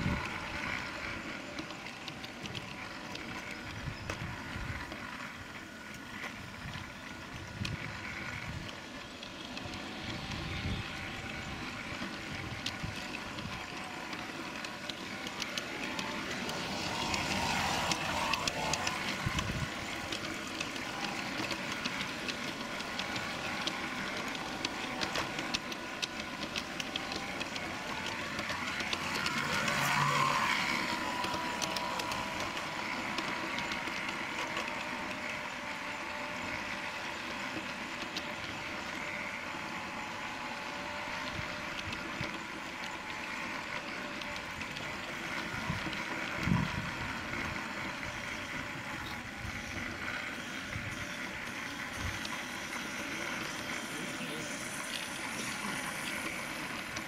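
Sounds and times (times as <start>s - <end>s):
sharp clicks of track: 0.0s - 57.0s.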